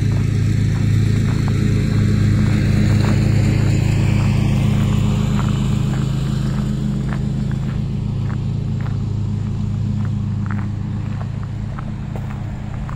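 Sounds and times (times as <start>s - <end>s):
low mechanical hum: 0.0s - 12.9s.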